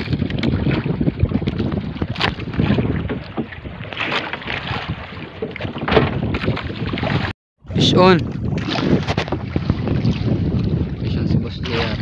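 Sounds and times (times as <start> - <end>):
water sloshing against hull: 0.0 - 12.0
wind buffeting microphone: 0.0 - 12.0.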